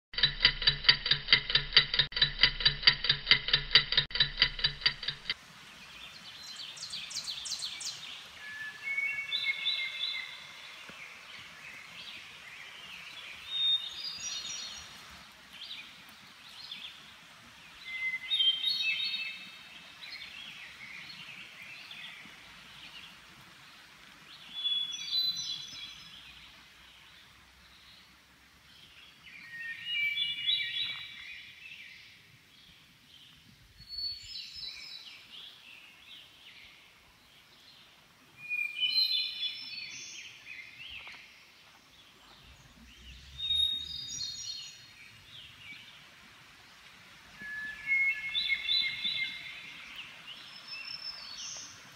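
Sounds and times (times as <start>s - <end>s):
songbird singing: 3.3s - 51.9s
outdoor background hiss: 4.2s - 51.9s.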